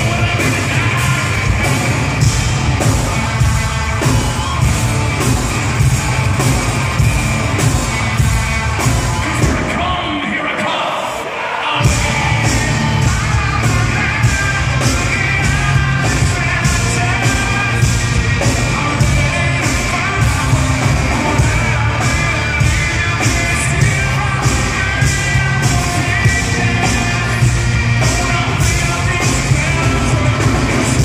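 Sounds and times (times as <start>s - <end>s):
man singing: 0.0s - 4.6s, 9.0s - 31.0s
bass guitar: 0.0s - 9.8s, 11.8s - 31.0s
steady drum beat: 0.0s - 10.1s, 11.8s - 31.0s
distorted electric guitars: 0.0s - 10.3s, 11.0s - 31.0s.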